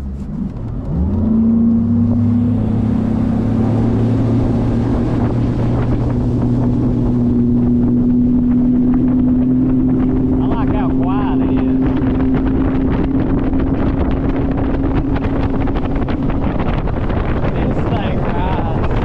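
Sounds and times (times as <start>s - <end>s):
outboard motor revving: 0.0s - 19.0s
wind noise on microphone: 0.0s - 19.0s.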